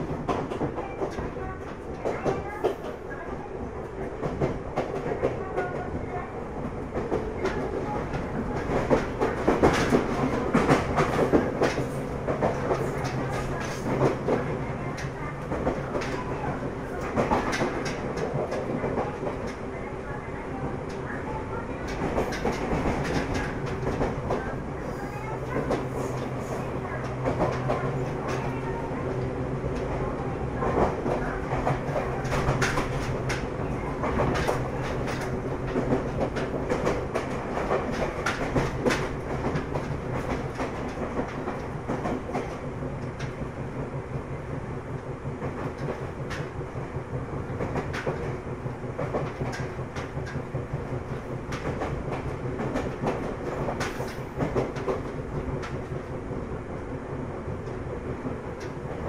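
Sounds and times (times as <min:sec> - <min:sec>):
train rumble and hum: 0:00.0 - 0:59.0
wheels clicking over rail joints: 0:03.8 - 0:56.9, 0:57.5 - 0:59.0.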